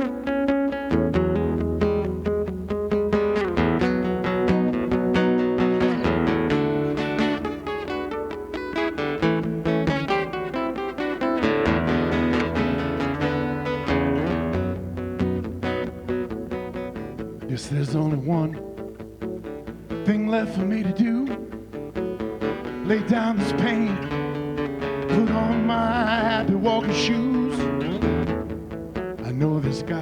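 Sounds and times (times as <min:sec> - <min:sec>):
acoustic guitar playing: 0:00.0 - 0:30.0
person singing blues: 0:00.0 - 0:30.0.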